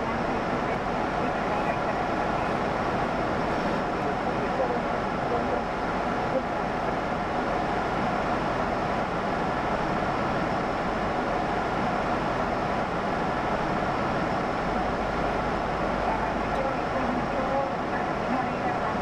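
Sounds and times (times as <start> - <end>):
rushing wind: 0.0 - 19.0.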